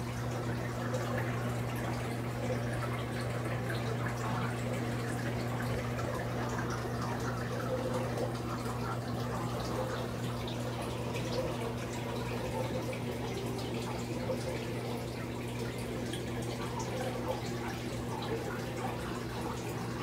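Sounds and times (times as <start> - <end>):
aquarium water trickling: 0.0 - 20.0.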